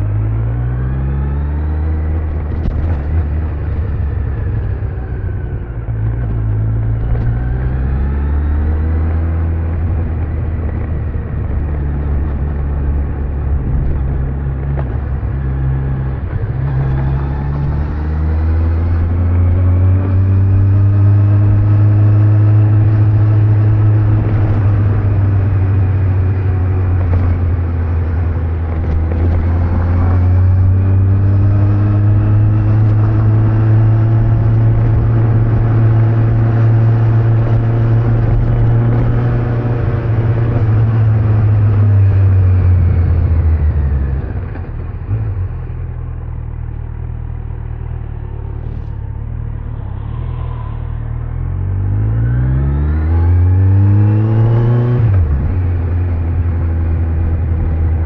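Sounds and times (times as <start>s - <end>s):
motorcycle engine cruising: 0.0s - 58.0s
road noise: 0.0s - 58.0s.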